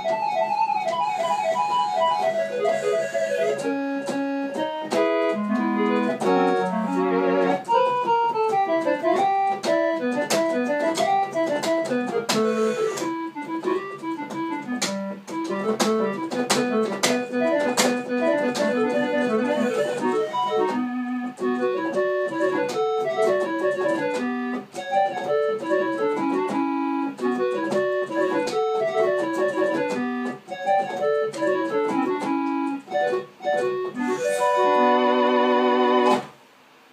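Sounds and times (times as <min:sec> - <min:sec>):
electronic keyboard rock melody: 0:00.0 - 0:36.3
keyboard chord with vibrato: 0:02.0 - 0:36.2.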